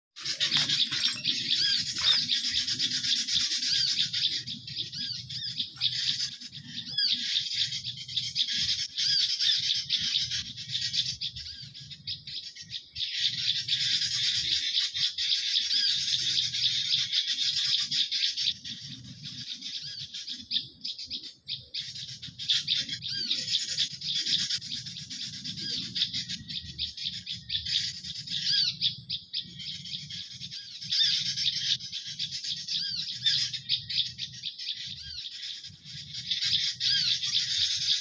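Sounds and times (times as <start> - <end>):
songbirds twittering: 0.1 - 38.0.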